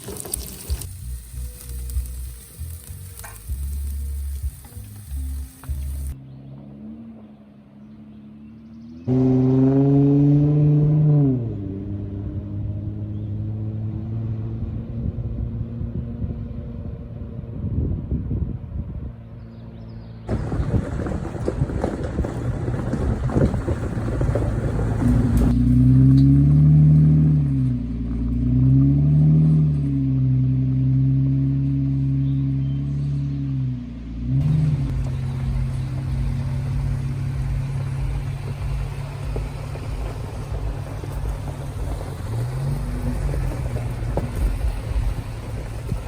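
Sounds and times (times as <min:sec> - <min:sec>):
car engine running while driving: 0:00.0 - 0:46.0.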